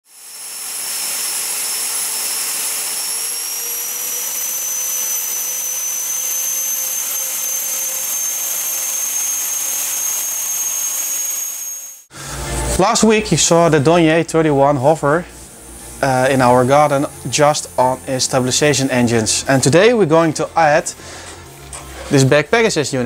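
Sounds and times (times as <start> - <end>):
electric ducted fans whining: 0.2 - 23.0.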